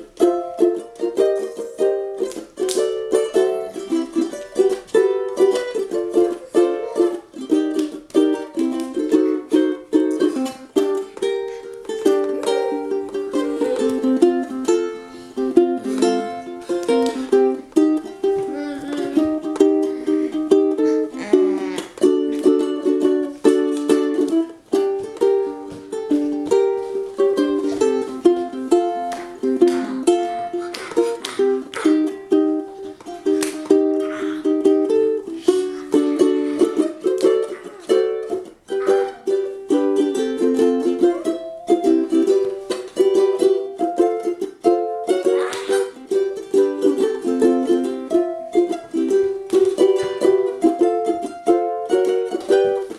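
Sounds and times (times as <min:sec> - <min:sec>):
ukulele plucked and strummed: 0:00.0 - 0:52.9.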